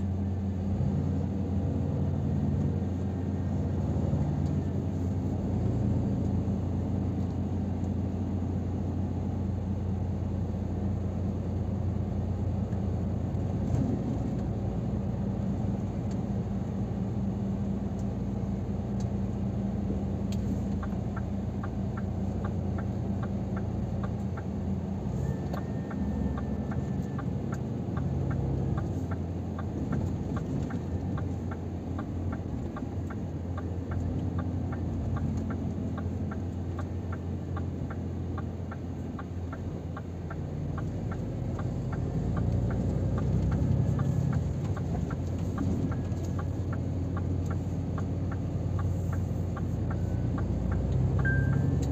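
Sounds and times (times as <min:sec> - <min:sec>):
truck engine and tyres drone: 0:00.0 - 0:51.9
turn indicator ticking: 0:00.0 - 0:51.9.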